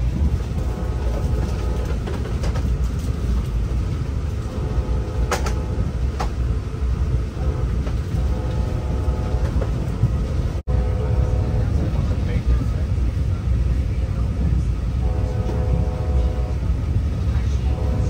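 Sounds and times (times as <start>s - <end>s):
train rumble inside coach: 0.0s - 18.0s.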